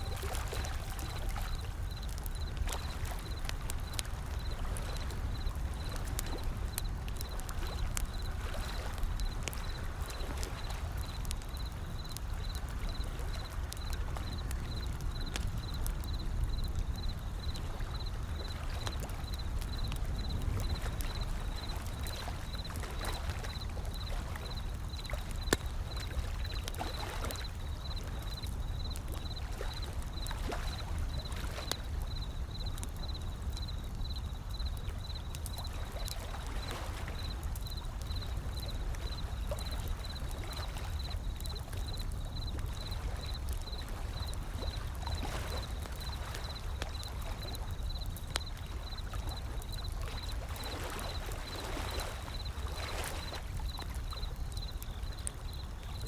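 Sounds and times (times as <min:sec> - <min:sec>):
wood fire crackling and popping: 0:00.0 - 0:51.6, 0:52.2 - 0:56.0.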